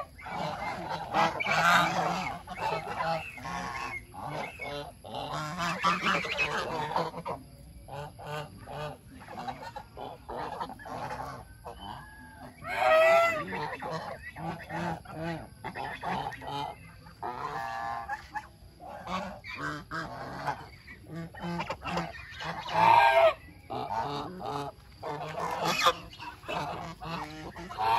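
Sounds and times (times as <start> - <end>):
geese honking: 0.0 - 27.9.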